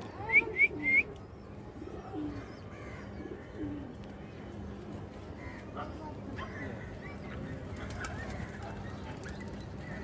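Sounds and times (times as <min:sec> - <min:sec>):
pigeons cooing: 0:00.2 - 0:04.0, 0:05.4 - 0:10.0.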